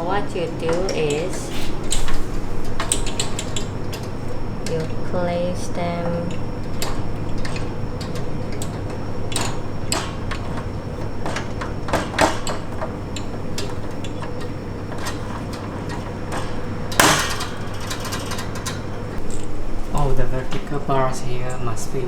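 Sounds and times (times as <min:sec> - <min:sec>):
cage parts clicking and knocking: 0:00.0 - 0:21.8
steady hum: 0:00.0 - 0:22.0.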